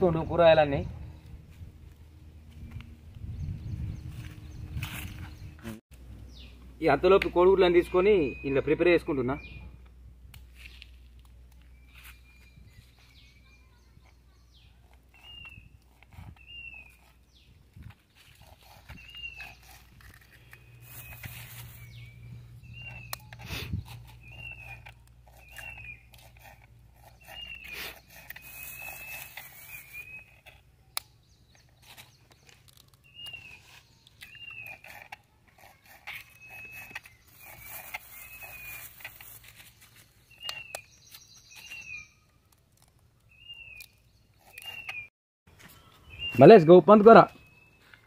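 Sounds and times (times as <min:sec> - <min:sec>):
bird chirping: 0:02.5 - 0:09.9, 0:10.6 - 0:48.0.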